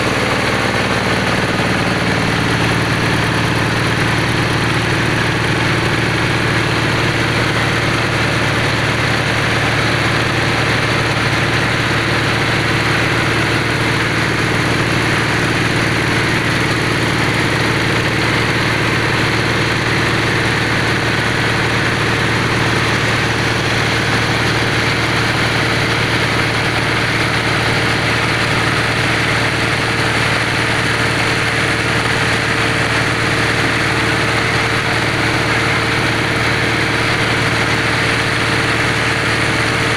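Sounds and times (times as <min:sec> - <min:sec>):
drilling machine engine running: 0:00.0 - 0:39.9.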